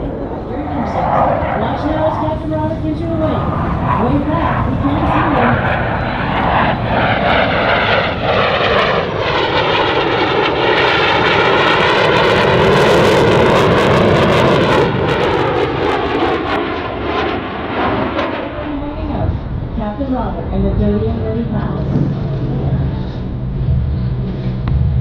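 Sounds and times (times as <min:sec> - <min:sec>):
fighter jet engines flying past: 0:00.0 - 0:25.0.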